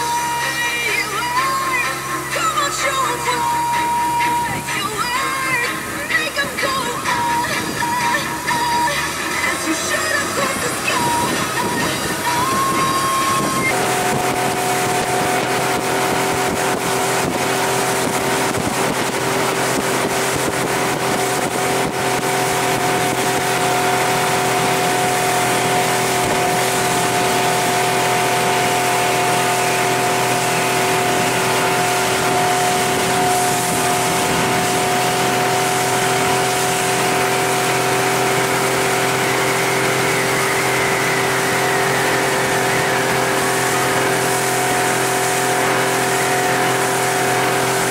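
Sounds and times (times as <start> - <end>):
outboard motor humming: 0.0 - 47.9
wind and water rushing: 3.3 - 47.9.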